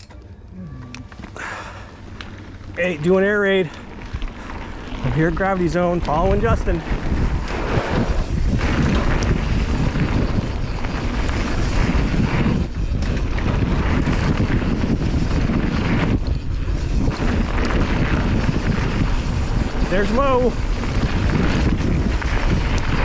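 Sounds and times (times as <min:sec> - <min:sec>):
bike tyres rumbling on dirt: 0:01.1 - 0:23.0
wind buffeting microphone: 0:01.4 - 0:23.0.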